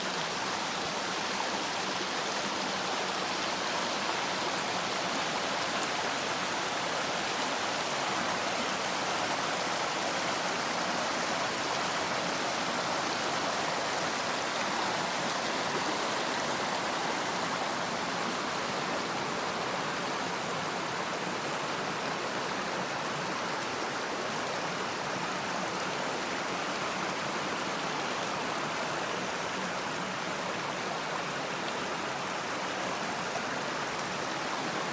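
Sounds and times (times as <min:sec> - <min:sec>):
mountain stream flowing: 0:00.0 - 0:34.9.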